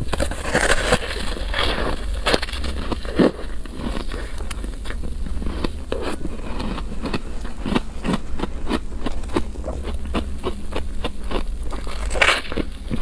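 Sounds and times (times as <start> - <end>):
chewing crunchy ice: 0.0 - 13.0.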